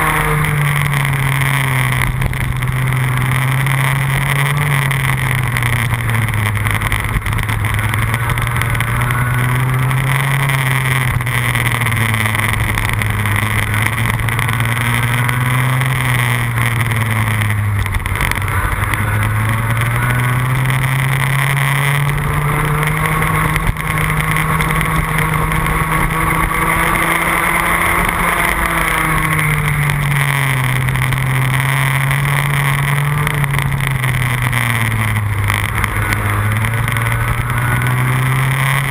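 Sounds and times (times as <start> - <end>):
kart engine at racing speed: 0.0 - 38.9.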